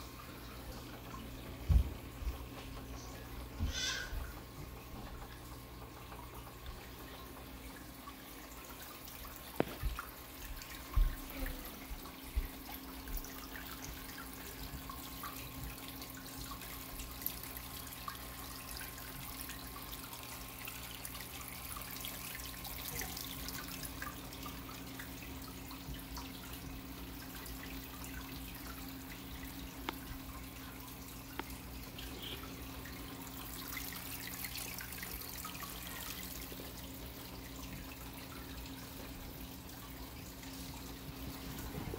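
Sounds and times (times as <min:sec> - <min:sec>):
water trickling and dripping: 0:00.0 - 0:41.9.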